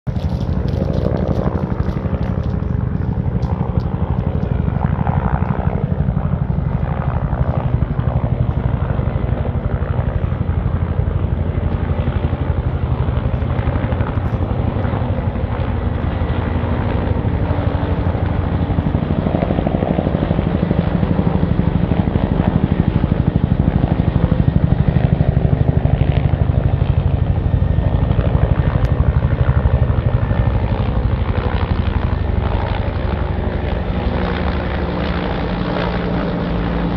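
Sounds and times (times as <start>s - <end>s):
helicopter rotors beating: 0.0s - 36.9s.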